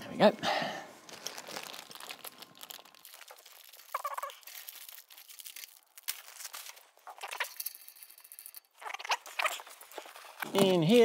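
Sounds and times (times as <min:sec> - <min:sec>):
plastic wrap rustling: 0:00.9 - 0:11.0.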